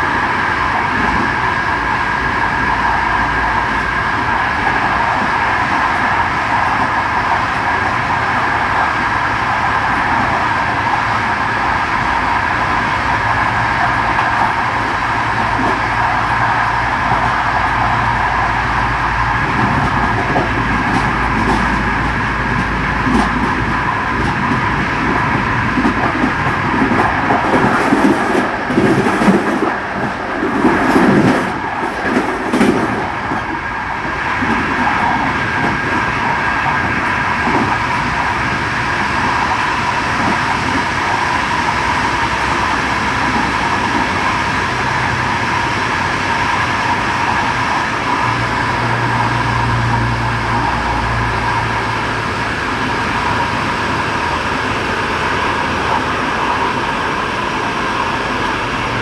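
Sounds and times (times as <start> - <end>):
train running with whine: 0.0 - 59.0.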